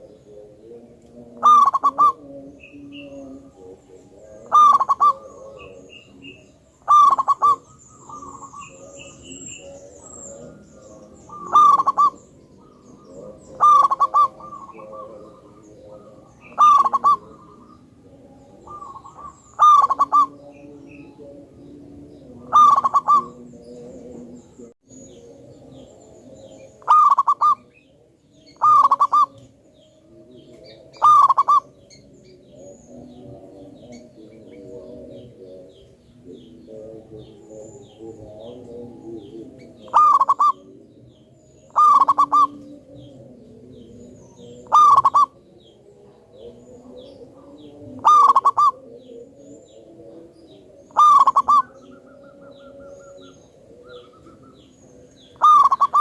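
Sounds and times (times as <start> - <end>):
dove cooing loudly: 0.0 - 56.0
softer low cooing: 0.0 - 56.0.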